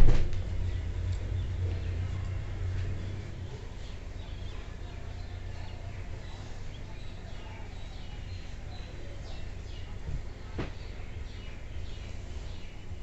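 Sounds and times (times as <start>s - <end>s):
faint background noise: 0.0s - 13.0s.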